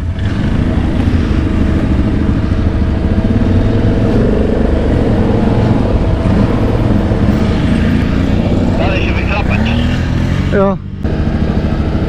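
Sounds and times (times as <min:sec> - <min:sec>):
quad bike engines running: 0:00.0 - 0:12.0.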